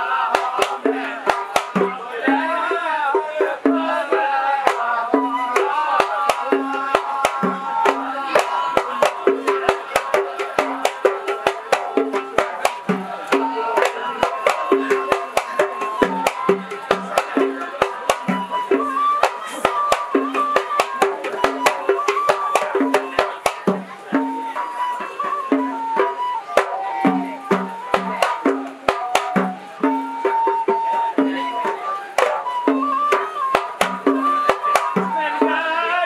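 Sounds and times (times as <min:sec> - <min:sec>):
hand drums beating: 0:00.0 - 0:36.0
men's chorus singing: 0:00.0 - 0:36.0.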